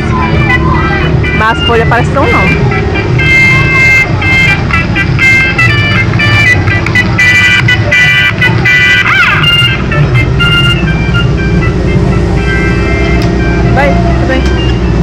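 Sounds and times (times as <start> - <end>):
melodic tune: 0.0 - 15.0
steady low rumble: 0.0 - 15.0.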